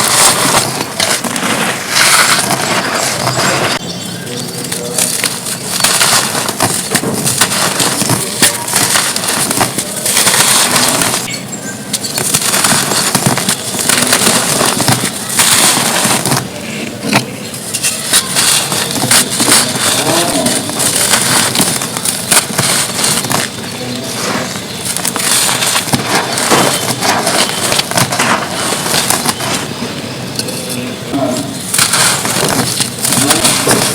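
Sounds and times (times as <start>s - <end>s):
dry dirt crumbling and crunching: 0.0s - 33.9s.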